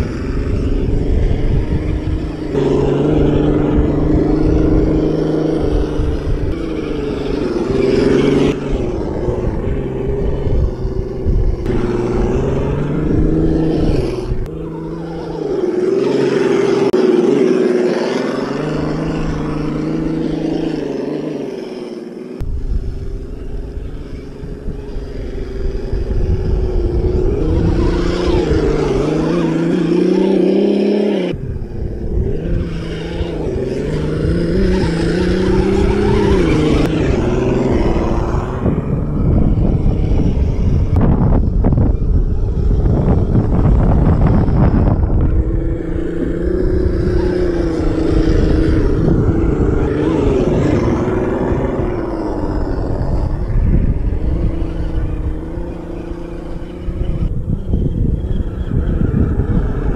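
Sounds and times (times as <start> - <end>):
toy car motor whining: 0.0 - 59.9.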